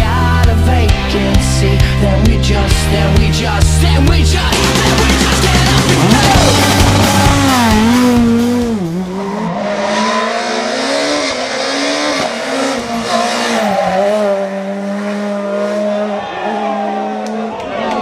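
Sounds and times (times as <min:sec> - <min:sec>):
rally car engine revving: 0:00.0 - 0:17.6.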